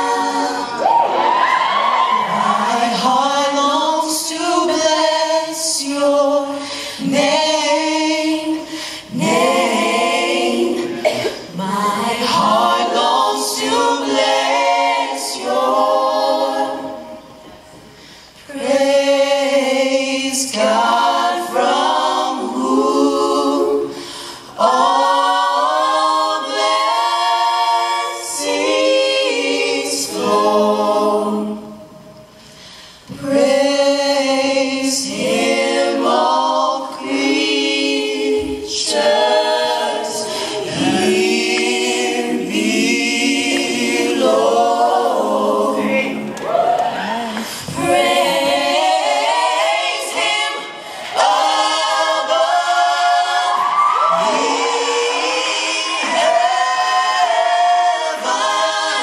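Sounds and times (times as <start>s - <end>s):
a cappella gospel singing: 0.0s - 59.0s.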